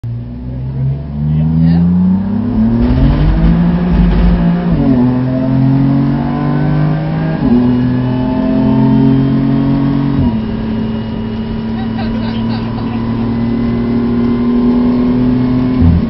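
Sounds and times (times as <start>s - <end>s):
car engine accelerating: 0.1s - 16.0s.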